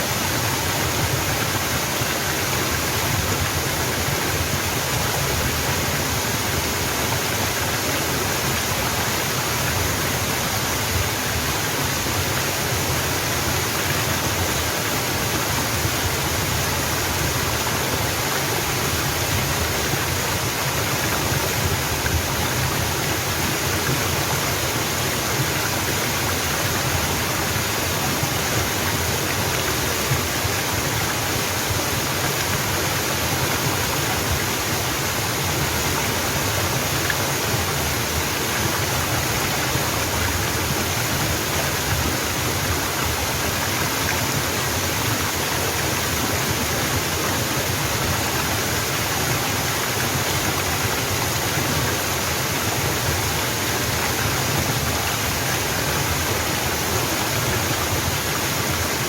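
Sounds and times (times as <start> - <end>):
waterfall splashing over rocks: 0.0 - 59.0.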